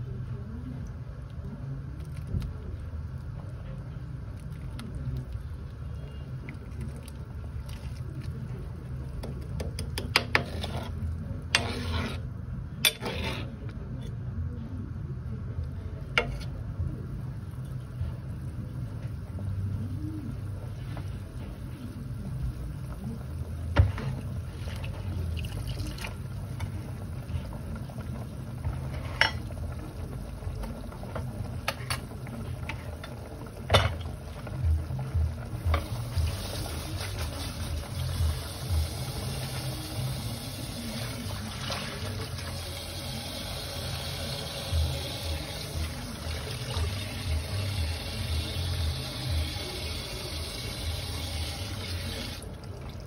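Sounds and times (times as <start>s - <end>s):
pot of soup bubbling: 0.0s - 53.0s.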